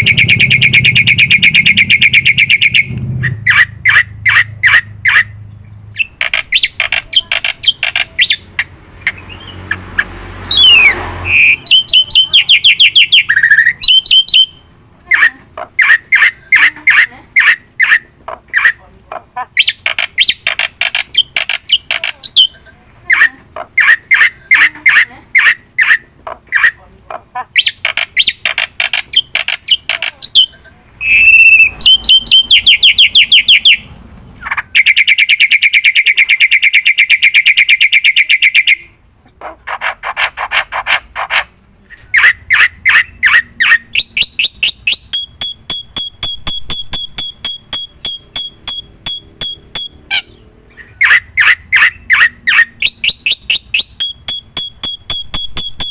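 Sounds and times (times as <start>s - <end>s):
starling singing: 0.0s - 5.4s, 6.0s - 39.0s, 41.9s - 55.9s.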